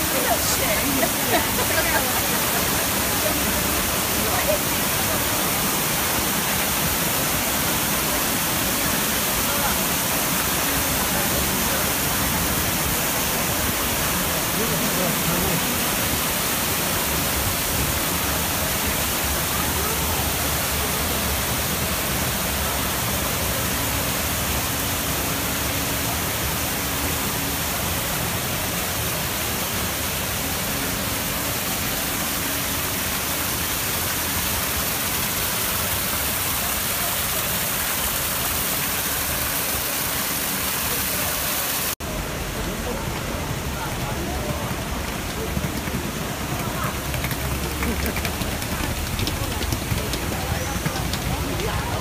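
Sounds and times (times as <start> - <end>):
fountain water pouring into pool: 0.0 - 52.0.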